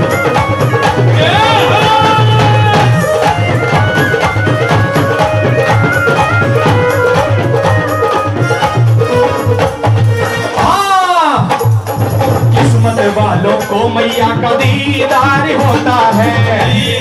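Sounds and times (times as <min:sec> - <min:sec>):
hand drum rhythm with bass beat: 0:00.0 - 0:17.0
keyboard melody: 0:00.0 - 0:17.0.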